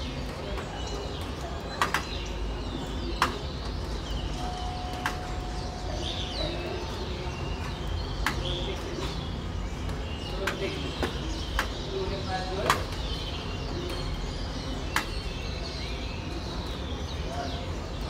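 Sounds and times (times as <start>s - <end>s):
city traffic hum: 0.0s - 18.0s
starlings chattering and whistling: 0.0s - 18.0s.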